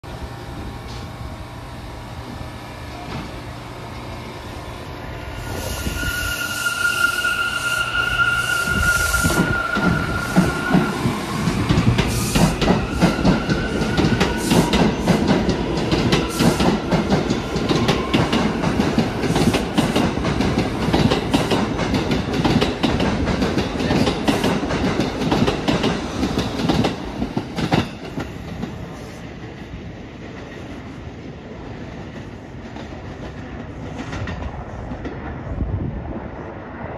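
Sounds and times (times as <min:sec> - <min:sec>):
high train whine: 0:00.0 - 0:36.9.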